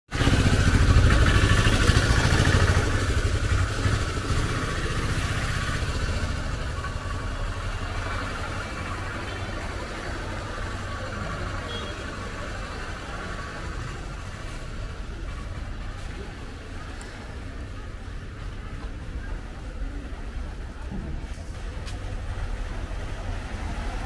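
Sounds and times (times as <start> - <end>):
small vehicle engine running: 0.1 - 24.0
street traffic: 0.1 - 24.0.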